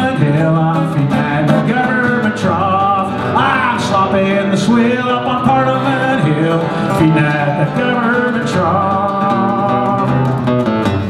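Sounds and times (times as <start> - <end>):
person singing: 0.0 - 10.5
acoustic guitar strumming: 0.0 - 11.0.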